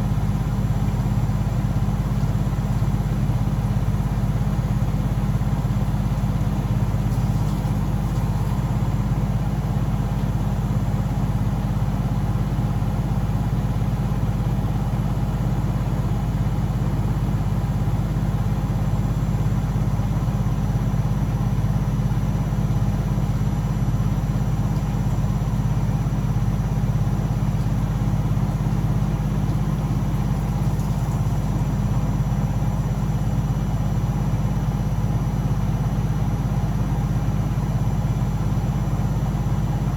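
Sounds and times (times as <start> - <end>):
washing machine humming and whirring: 0.0 - 39.9.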